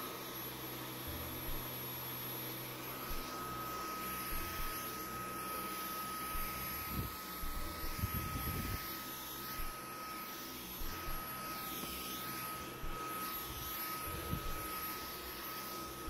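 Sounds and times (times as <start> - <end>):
vacuum cleaner whining: 0.0 - 16.0.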